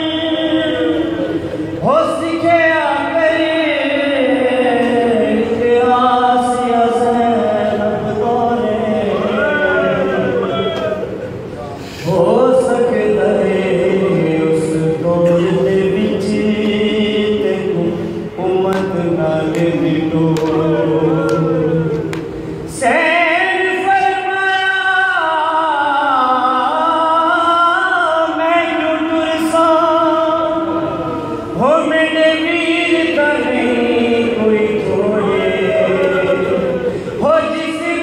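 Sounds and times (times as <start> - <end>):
man singing a lament: 0.0 - 11.2, 12.0 - 38.0.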